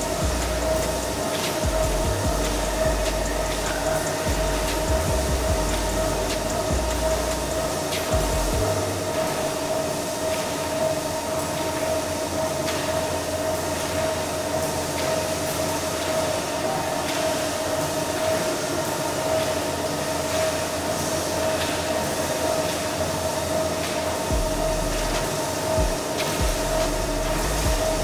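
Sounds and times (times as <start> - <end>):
mechanical hum and whine: 0.0 - 28.0.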